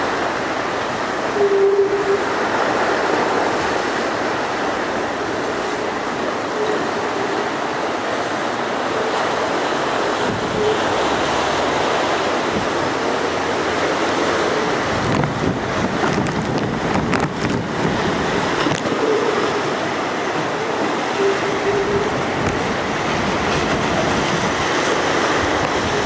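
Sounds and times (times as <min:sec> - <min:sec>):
hurricane wind: 0:00.0 - 0:26.0
waves crashing: 0:00.0 - 0:26.0
wind buffeting microphone: 0:00.0 - 0:26.0.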